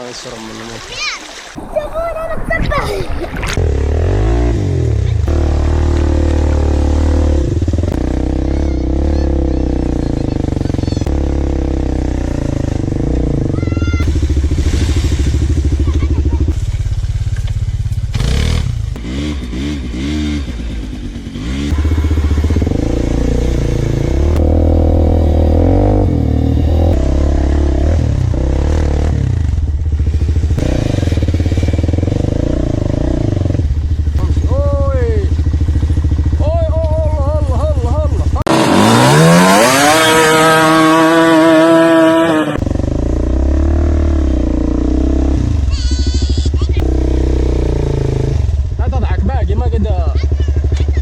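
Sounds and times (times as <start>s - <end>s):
quad bike engine revving: 3.5s - 51.0s.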